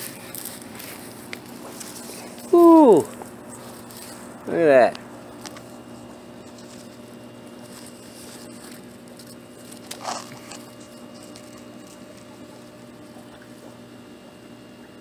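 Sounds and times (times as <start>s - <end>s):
phone rustling among leaves: 0.0s - 13.7s
steady low hum: 0.0s - 15.0s.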